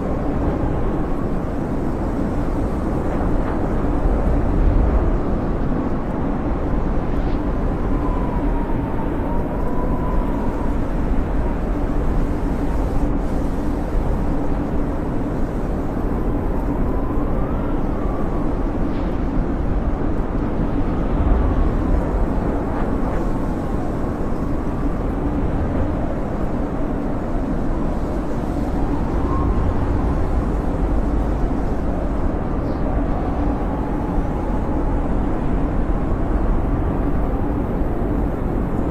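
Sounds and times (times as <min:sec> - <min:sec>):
snowstorm wind blowing: 0:00.0 - 0:38.9.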